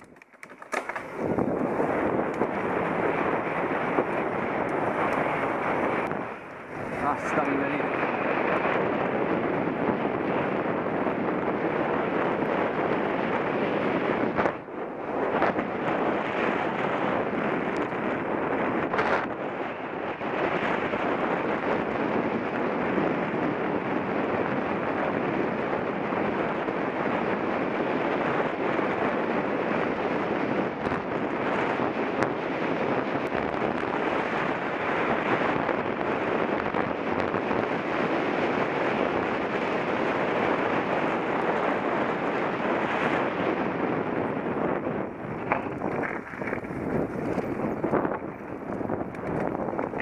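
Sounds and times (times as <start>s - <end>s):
wind rushing across microphone: 0.0s - 50.0s.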